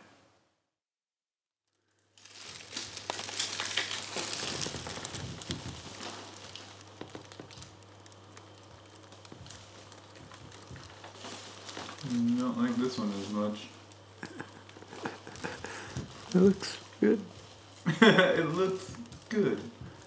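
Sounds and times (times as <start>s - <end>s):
bandage wrapper crinkling: 1.7s - 20.0s
low steady hum: 1.8s - 20.0s.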